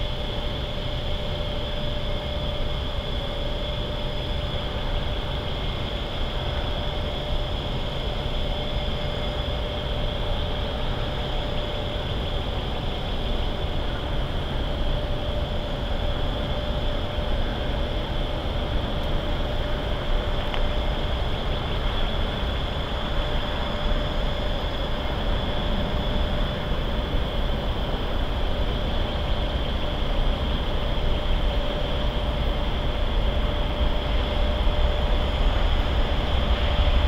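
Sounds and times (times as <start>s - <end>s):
distant freight train rumble: 0.0s - 37.0s
mechanical hum: 0.0s - 37.0s.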